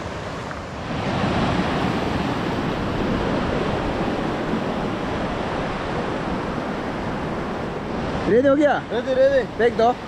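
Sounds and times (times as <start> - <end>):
rushing river water: 0.0 - 10.0.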